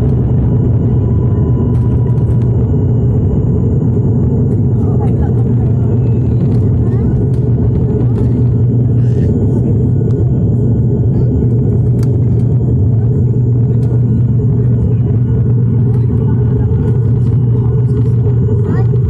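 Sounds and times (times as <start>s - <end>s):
aircraft engines and rushing air: 0.0s - 19.0s.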